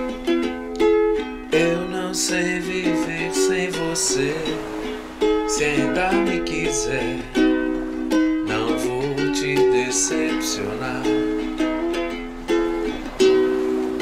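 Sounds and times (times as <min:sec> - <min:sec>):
plucked string instrument strumming: 0:00.0 - 0:14.0.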